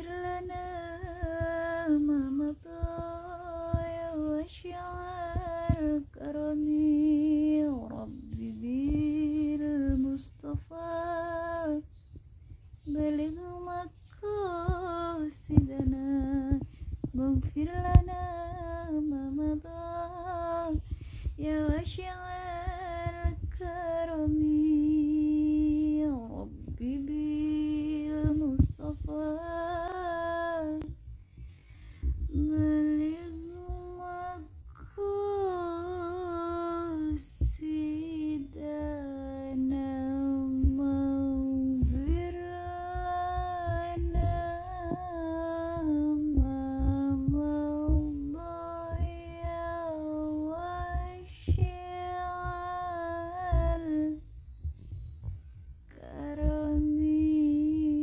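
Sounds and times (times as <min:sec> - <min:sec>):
woman singing: 0:00.0 - 0:12.0, 0:12.8 - 0:31.1, 0:32.1 - 0:54.8, 0:55.9 - 0:58.0.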